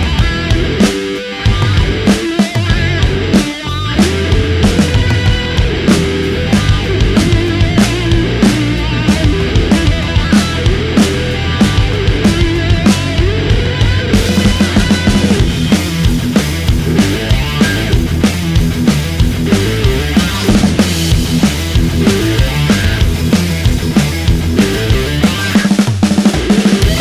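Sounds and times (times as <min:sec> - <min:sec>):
heavy metal music: 0:00.0 - 0:27.0.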